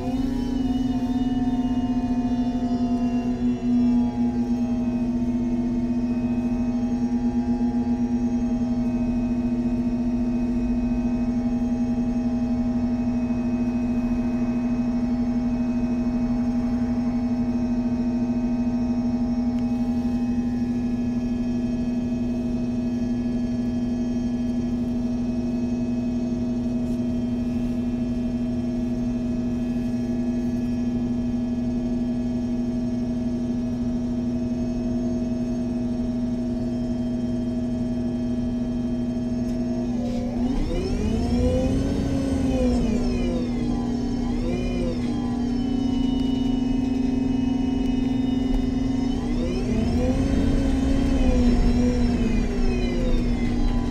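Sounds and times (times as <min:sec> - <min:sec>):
bus engine idling hum: 0:00.0 - 0:53.9.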